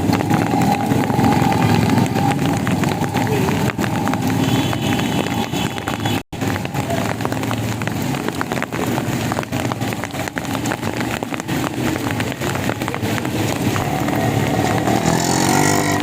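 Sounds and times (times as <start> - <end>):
heavy rain pouring: 0.0 - 16.0
street traffic hum: 0.0 - 16.0.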